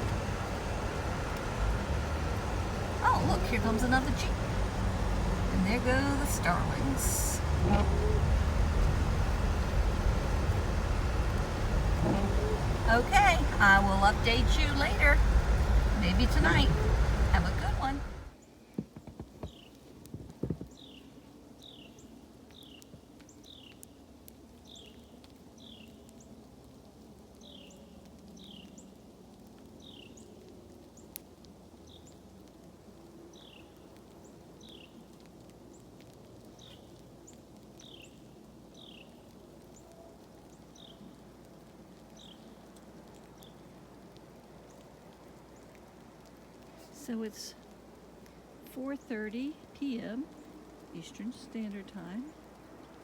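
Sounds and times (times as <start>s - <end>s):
faint steady background: 0.0s - 24.5s, 30.9s - 53.0s.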